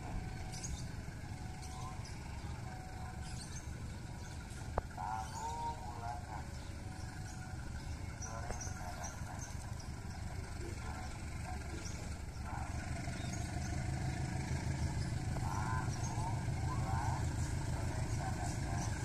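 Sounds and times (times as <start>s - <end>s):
locomotive engine rumble: 0.0s - 19.0s.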